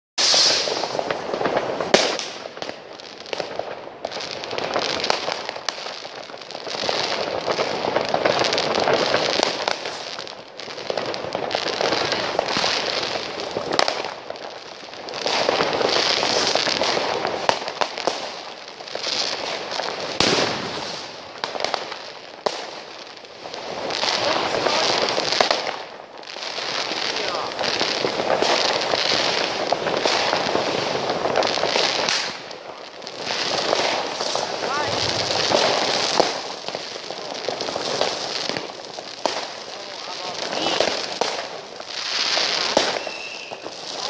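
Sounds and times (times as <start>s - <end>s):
firecrackers crackling: 0.2s - 44.0s
loud firework bangs: 0.2s - 44.0s.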